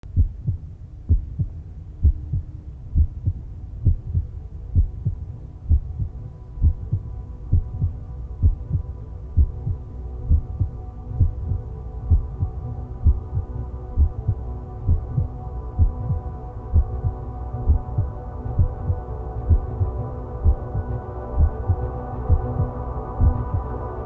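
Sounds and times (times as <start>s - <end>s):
electronic music with deep pulse: 0.1s - 24.0s.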